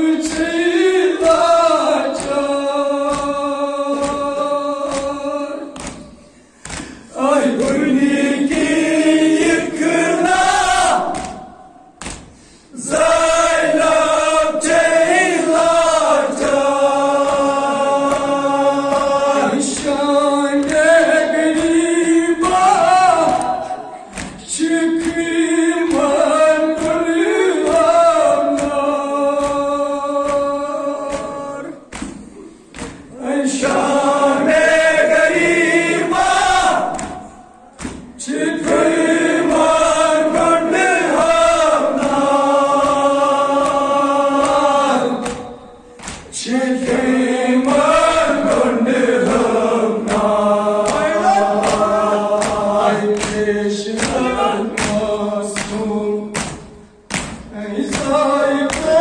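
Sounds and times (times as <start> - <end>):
group chanting a lament: 0.0 - 59.0.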